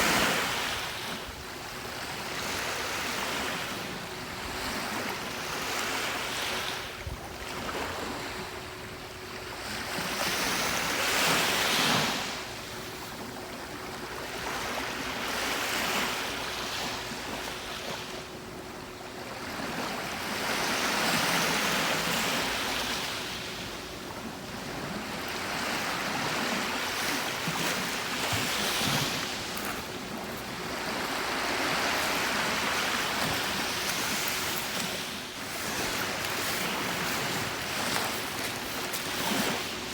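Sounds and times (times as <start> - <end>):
sea waves breaking on a beach: 0.0 - 39.9.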